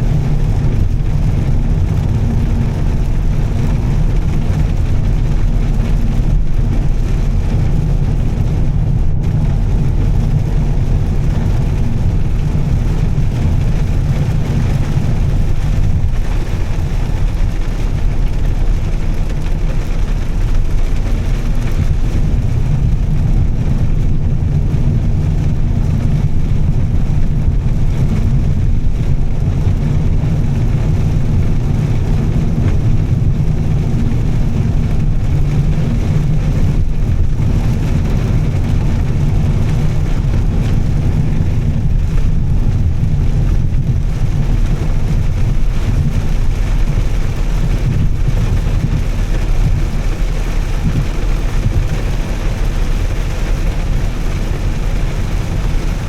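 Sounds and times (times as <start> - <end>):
car exhaust droning: 0.0 - 56.0
road noise: 0.0 - 56.0.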